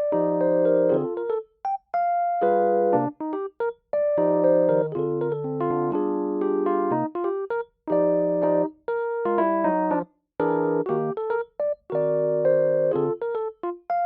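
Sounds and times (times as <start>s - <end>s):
electric piano chords: 0.0s - 14.0s.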